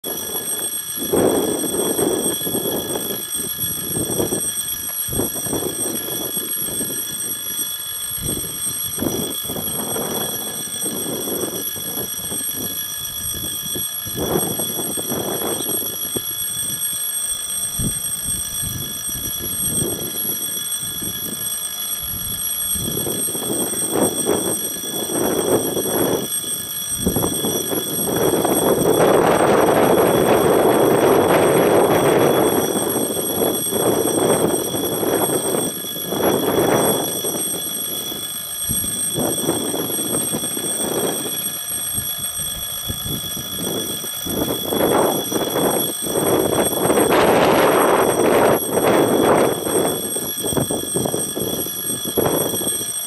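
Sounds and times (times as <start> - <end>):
level crossing alarm ringing: 0.0 - 53.0.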